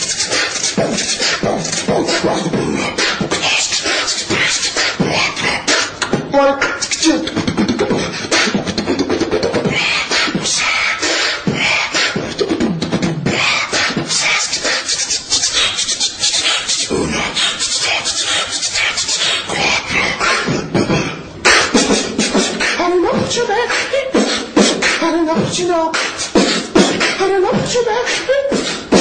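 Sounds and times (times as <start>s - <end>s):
beatboxing: 0.0s - 29.0s.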